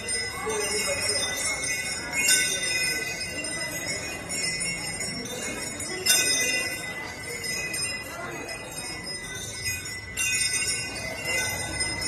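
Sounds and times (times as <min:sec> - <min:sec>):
metal bells jangling: 0:00.0 - 0:12.0.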